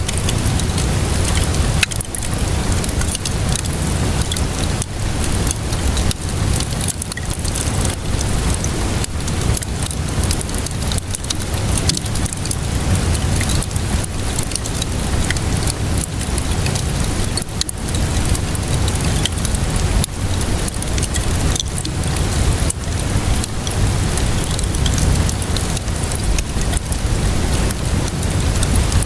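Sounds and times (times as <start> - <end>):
rain falling: 0.0 - 29.0
wood fire crackling: 0.0 - 29.0.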